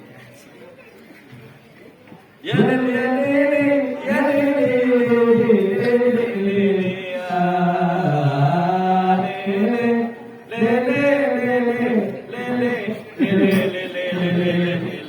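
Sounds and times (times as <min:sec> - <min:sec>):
man chanting over a microphone: 0:02.4 - 0:15.0.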